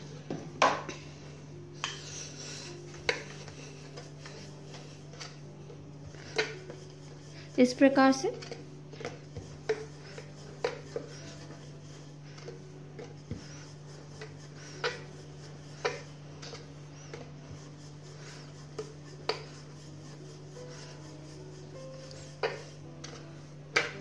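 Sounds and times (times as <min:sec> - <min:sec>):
rolling pin rolling dough: 0:00.0 - 0:24.0
steady low hum: 0:00.0 - 0:24.0.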